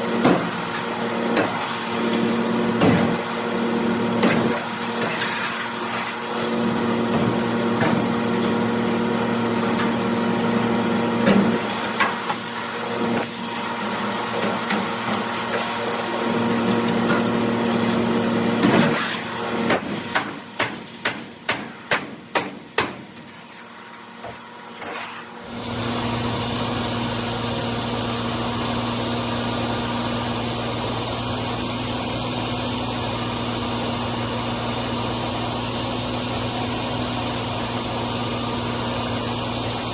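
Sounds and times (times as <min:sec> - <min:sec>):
grinder-mixer droning: 0:00.0 - 0:39.9.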